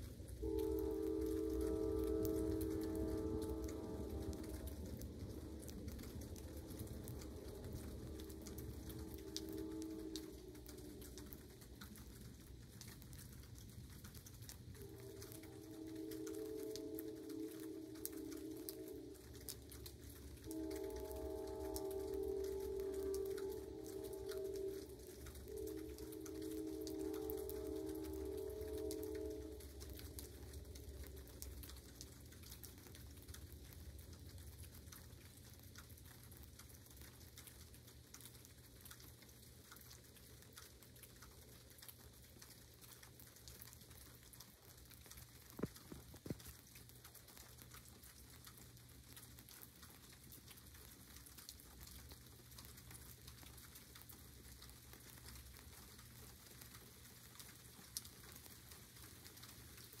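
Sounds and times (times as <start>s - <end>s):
light rain pattering: 0.0s - 60.0s
sharp raindrop ticks: 0.0s - 60.0s.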